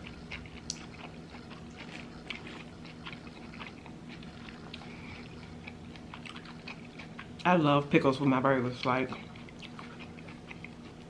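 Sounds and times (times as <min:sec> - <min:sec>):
mouth chewing food: 0:00.0 - 0:07.6, 0:08.7 - 0:11.0
low steady hum: 0:00.0 - 0:11.0.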